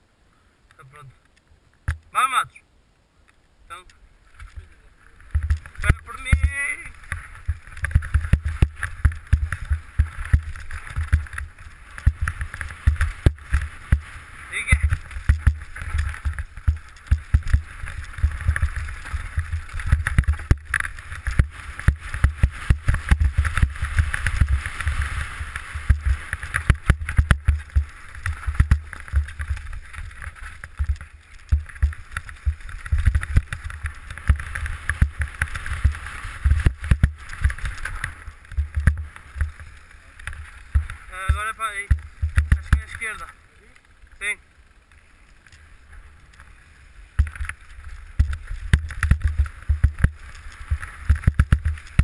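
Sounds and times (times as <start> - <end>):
steady rushing noise: 3.5 - 52.0.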